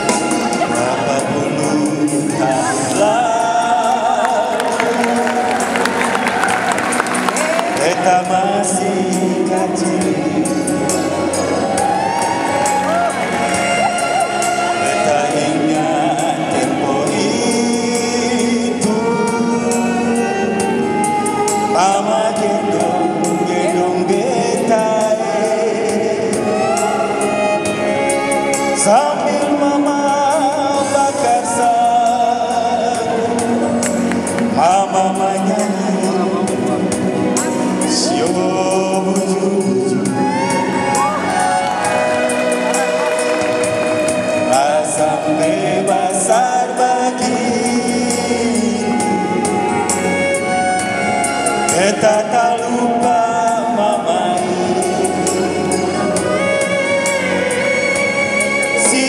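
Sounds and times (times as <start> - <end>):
amplified backing music: 0.0 - 59.0
instrumental accompaniment with beat: 0.0 - 59.0
man and woman singing duet: 0.0 - 59.0.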